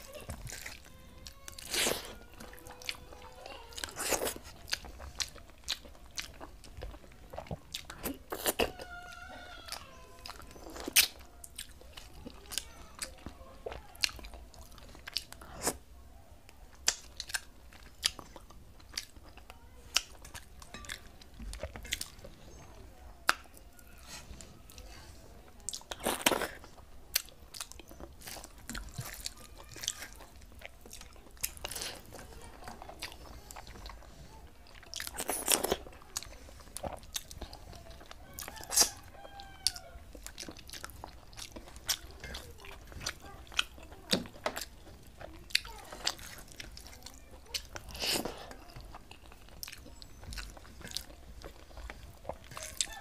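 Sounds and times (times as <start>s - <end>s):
person chewing: 0.0s - 15.9s, 16.7s - 53.0s.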